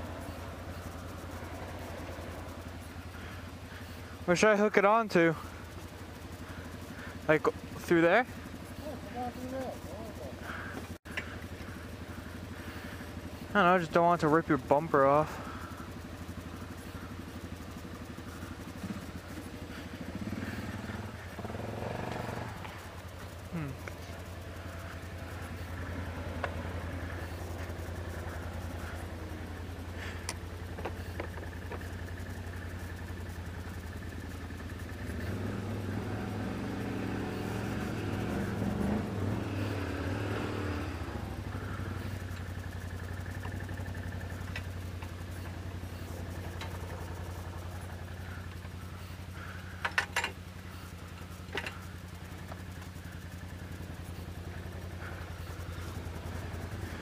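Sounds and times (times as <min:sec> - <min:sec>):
atv engine idling and revving: 0:00.0 - 0:57.0.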